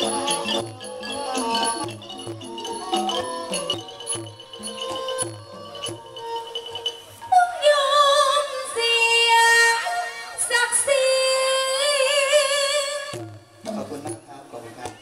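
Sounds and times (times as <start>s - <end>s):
woman singing through microphone: 0.0s - 13.6s.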